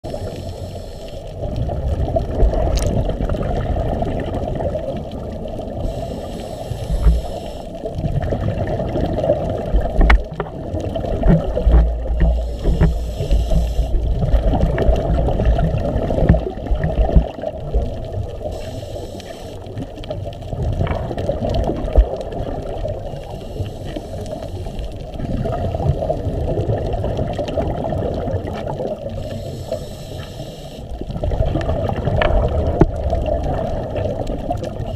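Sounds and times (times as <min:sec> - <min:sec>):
muffled water sloshing and gurgling: 0:00.0 - 0:34.9.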